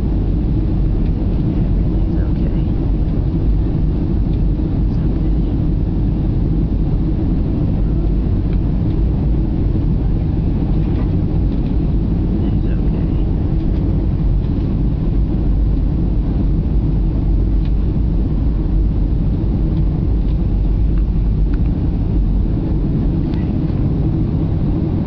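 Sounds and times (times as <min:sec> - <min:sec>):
jet airliner cabin rumble: 0:00.0 - 0:25.0.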